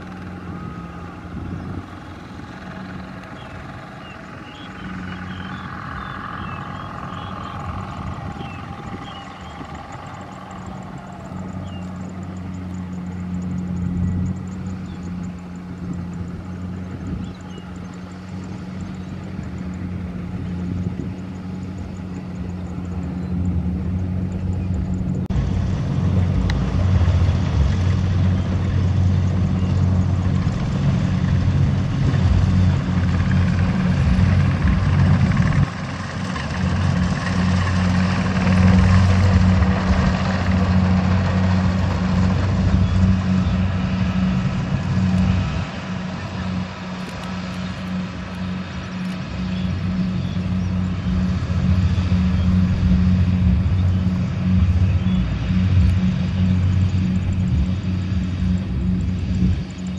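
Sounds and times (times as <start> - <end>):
diesel tractor engine running hard: 0.0 - 59.9.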